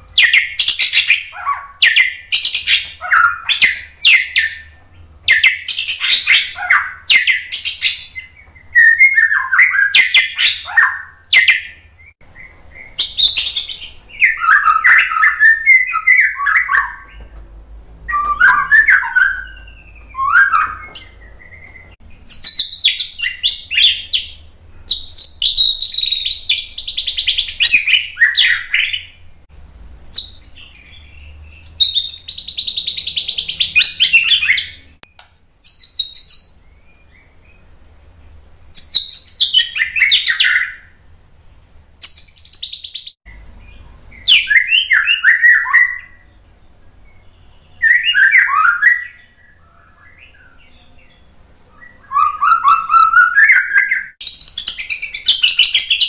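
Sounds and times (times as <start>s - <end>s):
bird singing whistles and trills: 0.0s - 17.3s, 18.1s - 29.2s, 30.1s - 37.7s, 38.7s - 41.0s, 42.0s - 56.0s.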